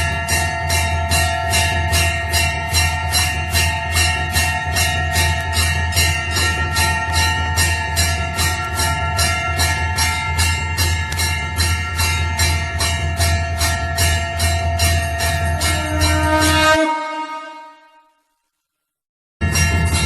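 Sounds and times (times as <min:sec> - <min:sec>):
temple bell struck rapidly: 0:00.0 - 0:17.7, 0:19.4 - 0:20.0.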